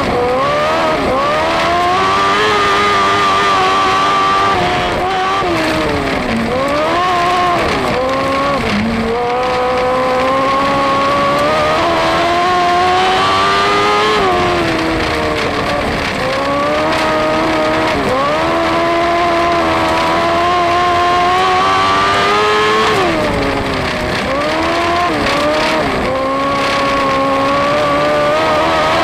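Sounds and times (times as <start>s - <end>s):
racing engine revving: 0.0s - 29.0s.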